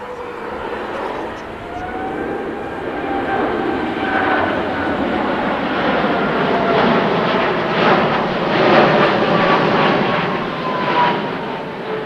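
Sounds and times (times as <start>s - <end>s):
jet airliner flying overhead: 0.0s - 12.0s.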